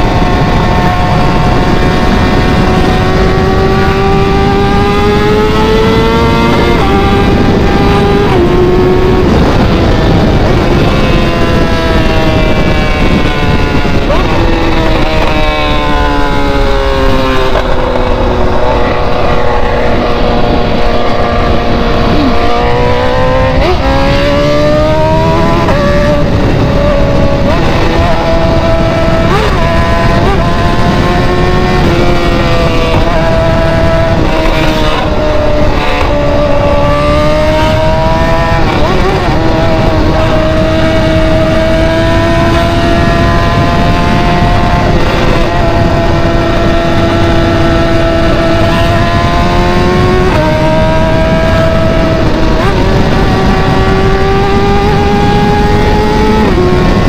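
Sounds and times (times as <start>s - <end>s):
car exhaust while driving: 0.0s - 57.0s.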